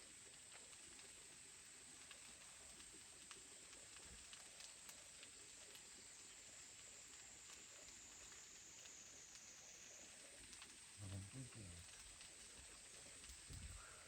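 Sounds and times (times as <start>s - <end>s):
faint ticks: 0.1s - 14.0s.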